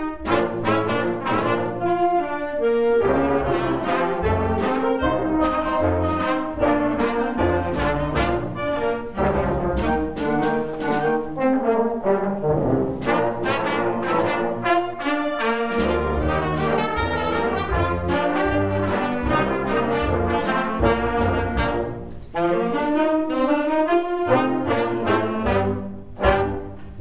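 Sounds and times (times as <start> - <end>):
concert band playing ragtime: 0.0 - 27.0.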